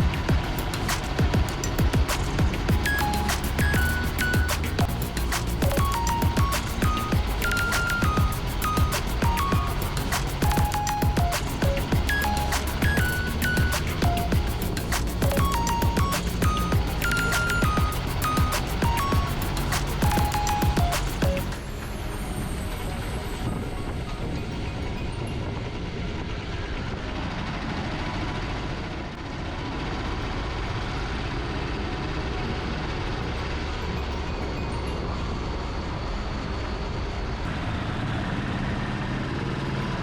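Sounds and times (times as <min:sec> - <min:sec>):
train wheels rumbling: 0:00.0 - 0:34.2.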